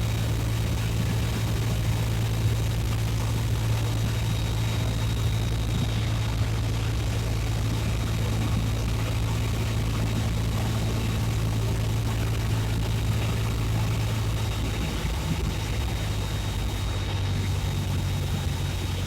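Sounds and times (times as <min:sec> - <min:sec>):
airplane engine drone in cabin: 0:00.0 - 0:19.0.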